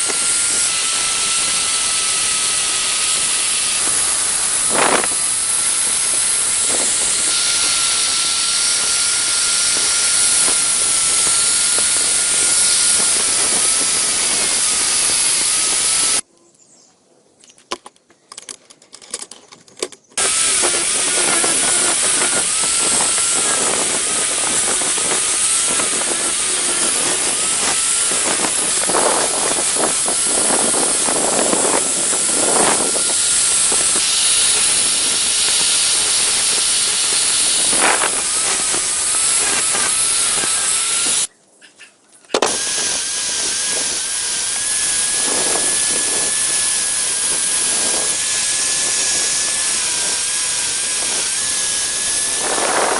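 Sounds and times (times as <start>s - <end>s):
electric power tool whining: 0.0s - 16.3s, 19.1s - 41.3s, 42.3s - 52.9s.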